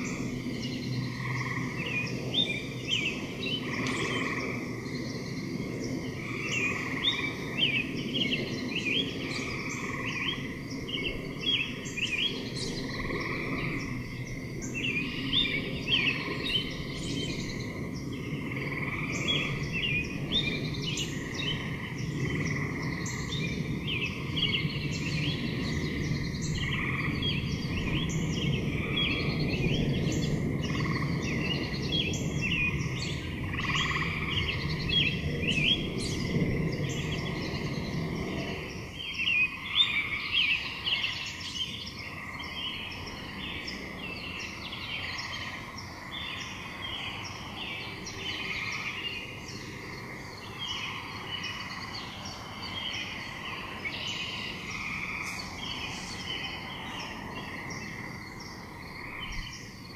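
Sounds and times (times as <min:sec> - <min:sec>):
low rumbling noise: 0:00.0 - 0:59.9
small birds chirping: 0:00.0 - 0:59.9.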